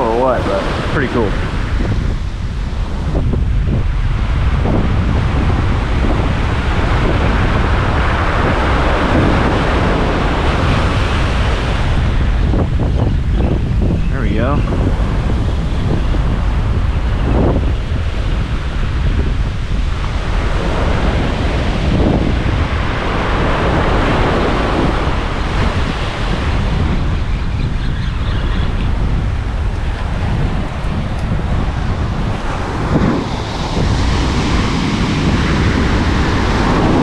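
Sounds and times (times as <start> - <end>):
surf breaking on beach: 0.0 - 37.0
wind buffeting microphone: 0.0 - 37.0.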